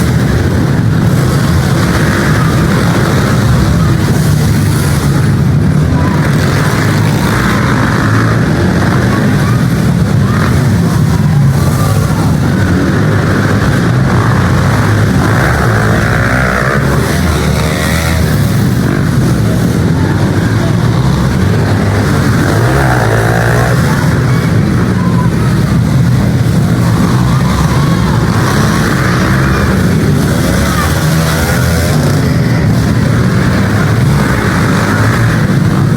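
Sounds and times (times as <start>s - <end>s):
pit bike engines revving: 0.0s - 35.9s.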